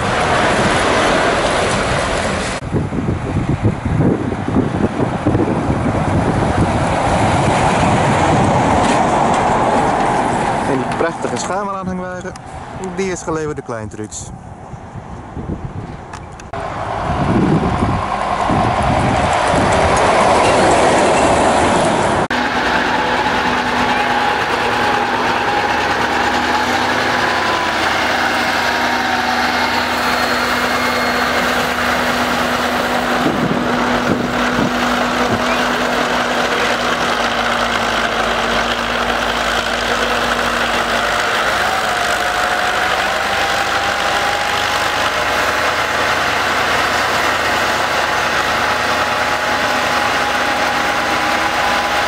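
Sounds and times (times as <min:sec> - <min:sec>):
diesel truck engine running: 0:00.0 - 0:14.1, 0:16.3 - 0:52.0
passing truck: 0:00.0 - 0:52.0.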